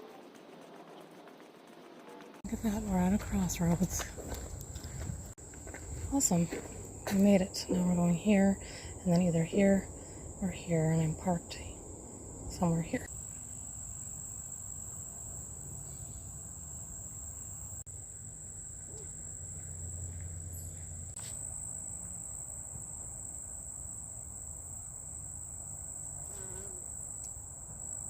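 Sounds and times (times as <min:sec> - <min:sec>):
insects trilling: 0:02.5 - 0:28.0.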